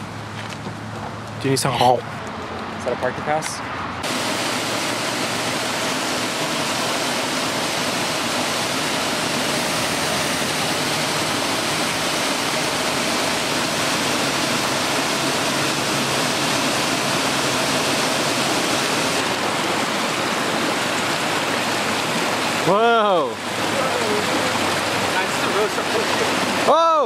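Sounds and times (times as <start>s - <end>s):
creek rushing over rocks: 4.0s - 27.0s.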